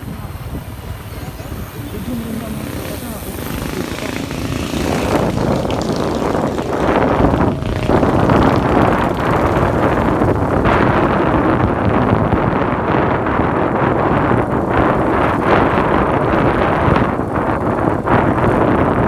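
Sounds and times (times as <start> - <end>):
vehicle running noise: 0.0 - 19.0
wind rush on microphone: 0.0 - 19.0.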